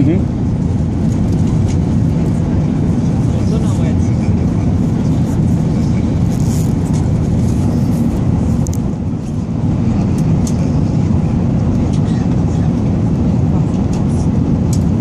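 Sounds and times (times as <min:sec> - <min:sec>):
airplane cabin engine roar: 0:00.0 - 0:15.0.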